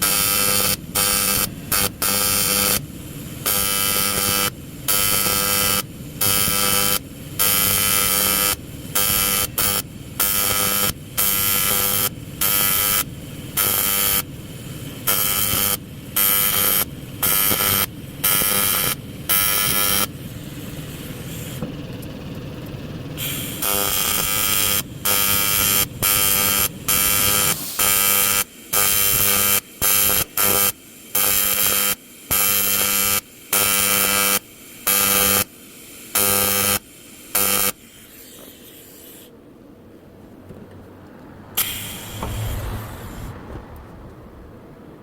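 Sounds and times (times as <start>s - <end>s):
electric welding arc buzzing: 0.0s - 21.6s, 23.2s - 39.4s, 41.6s - 43.3s.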